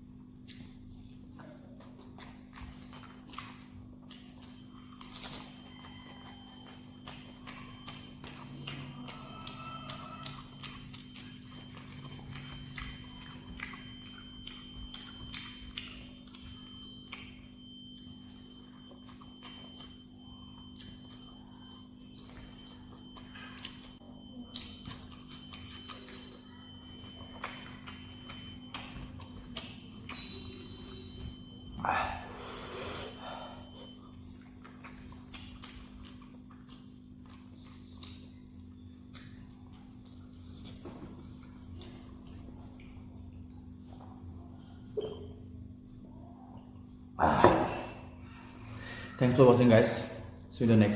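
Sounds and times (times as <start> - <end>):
wet mouth chewing sounds: 0.0 - 48.9.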